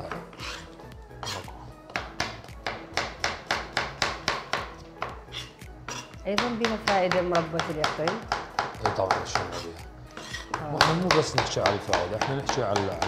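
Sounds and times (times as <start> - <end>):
knife chopping pumpkin: 0.0 - 9.6, 10.2 - 13.0.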